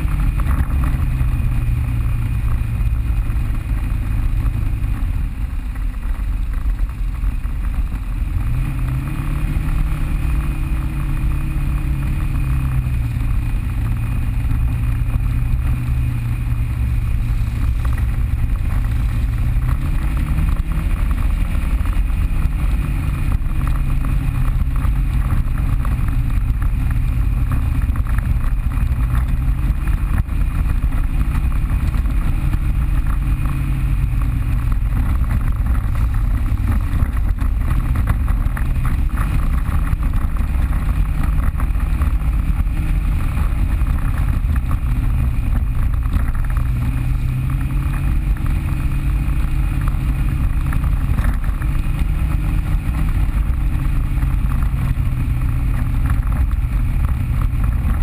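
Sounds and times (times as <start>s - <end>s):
off-road vehicle engine running: 0.0s - 58.0s
steady low rumble: 0.0s - 58.0s.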